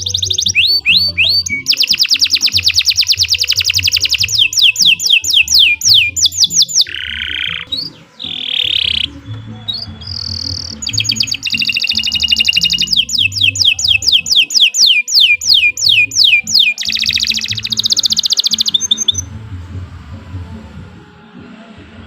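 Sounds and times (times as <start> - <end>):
canary singing: 0.0 - 21.8.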